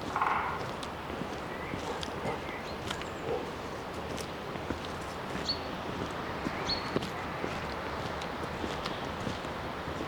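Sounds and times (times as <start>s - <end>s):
footsteps on forest trail: 0.0s - 10.0s.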